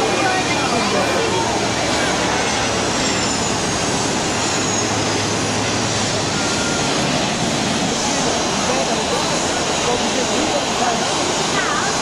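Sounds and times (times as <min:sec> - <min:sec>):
jet roar: 0:00.0 - 0:12.0.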